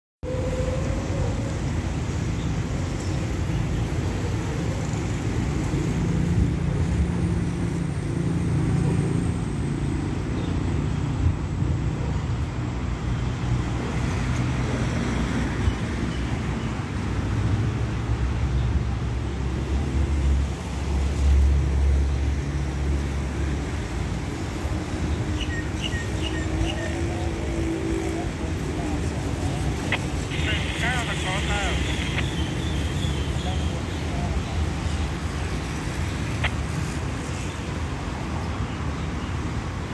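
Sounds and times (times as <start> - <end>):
distant engines and traffic: 0.2 - 39.9.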